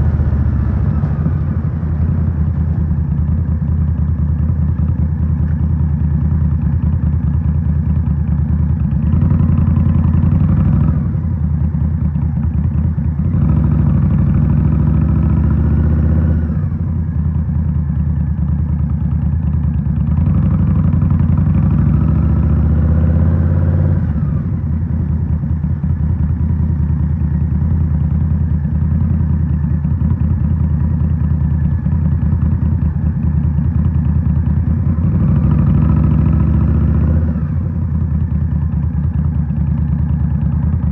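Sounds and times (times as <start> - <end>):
motorcycle engine revving: 0.0 - 4.9, 8.3 - 16.9, 19.9 - 26.9, 28.6 - 40.9.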